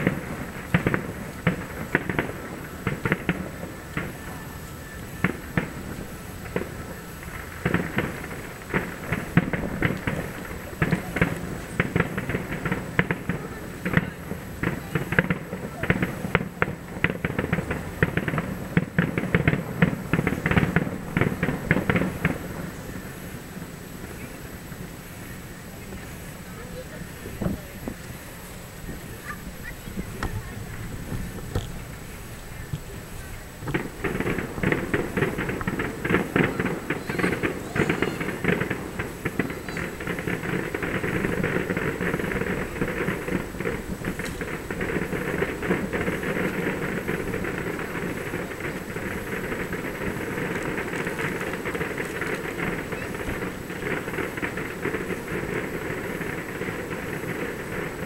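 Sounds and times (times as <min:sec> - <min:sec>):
distant fireworks bangs and crackles: 0:00.0 - 0:58.0.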